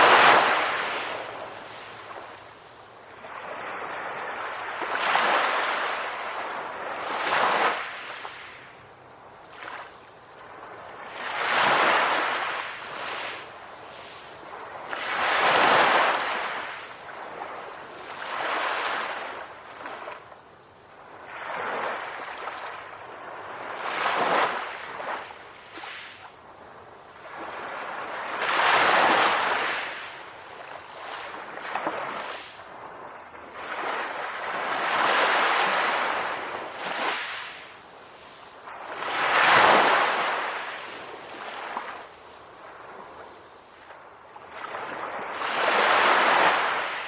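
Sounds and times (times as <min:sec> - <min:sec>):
ocean waves washing ashore: 0:00.0 - 0:47.0.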